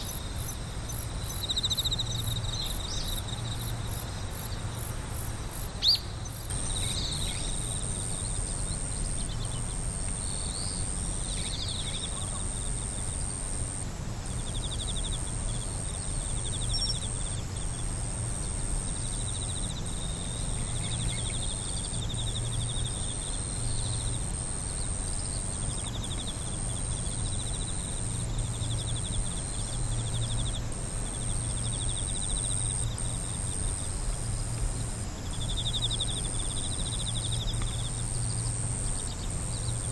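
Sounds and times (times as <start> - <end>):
insect high-pitched trill: 0.0 - 13.2, 14.4 - 39.9
crickets chirping: 0.0 - 39.9.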